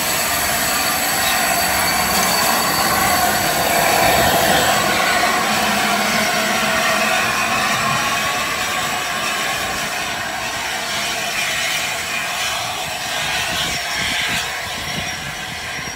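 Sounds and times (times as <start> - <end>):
steam hissing: 0.0 - 15.9.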